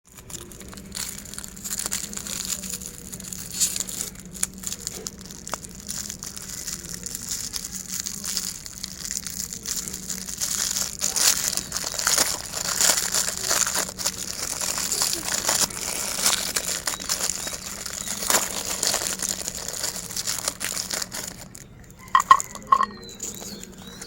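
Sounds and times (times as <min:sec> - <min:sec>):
hard candy cracking and crunching: 0:00.1 - 0:24.0.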